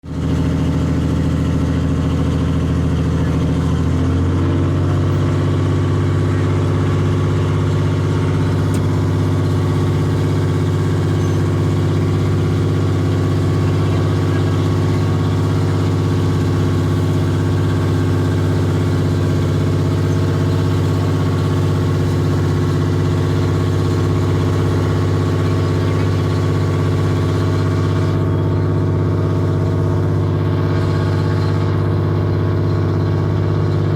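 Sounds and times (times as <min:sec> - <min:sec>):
engine droning: 0:00.0 - 0:33.9.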